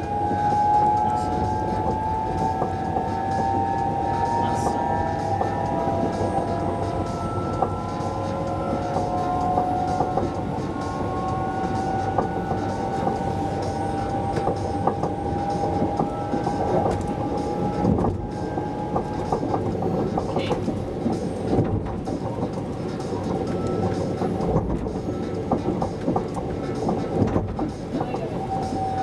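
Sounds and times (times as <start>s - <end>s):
electric train whine: 0.0s - 29.0s
train wheels rumbling on rail: 0.0s - 29.0s
wheels clicking over rail joints: 0.0s - 29.0s.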